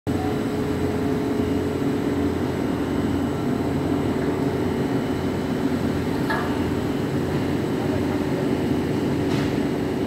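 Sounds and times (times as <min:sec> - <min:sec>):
steady mechanical drone: 0:00.1 - 0:10.0.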